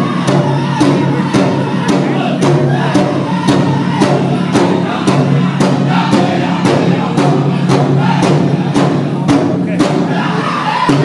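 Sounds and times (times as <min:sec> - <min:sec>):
drum group singing: 0:00.0 - 0:11.0
steady unison drum beat: 0:00.0 - 0:11.0.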